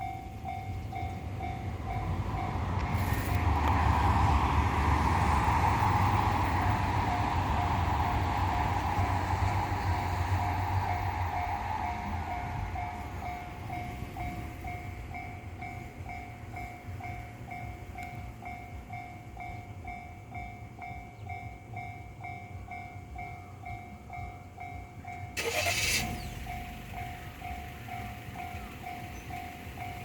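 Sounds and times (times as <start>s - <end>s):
level crossing warning bell: 0.0s - 3.4s, 6.0s - 30.0s.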